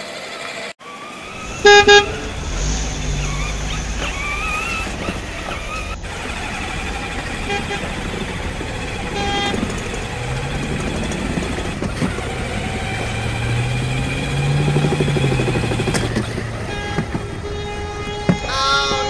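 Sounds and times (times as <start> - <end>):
toy car electric motor humming: 0.0 - 18.6.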